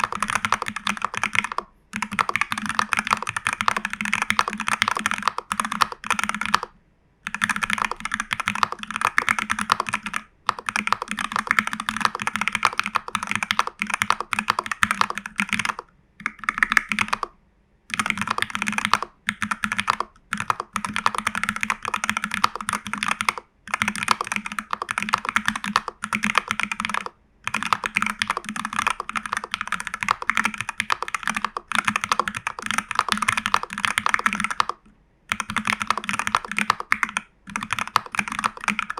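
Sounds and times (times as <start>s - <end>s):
fast typing on mechanical keyboard: 0.0s - 17.3s, 17.9s - 38.9s.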